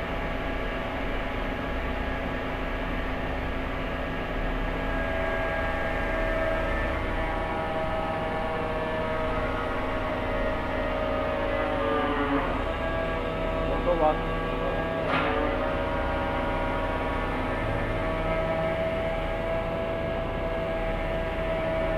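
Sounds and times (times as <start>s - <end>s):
hydraulic pump whine: 0.0s - 21.9s
low motor hum: 0.0s - 21.9s.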